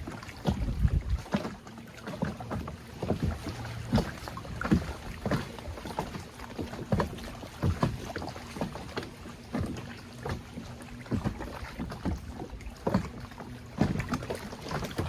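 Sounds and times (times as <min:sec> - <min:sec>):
water slapping against kayak hull: 0:00.0 - 0:15.0.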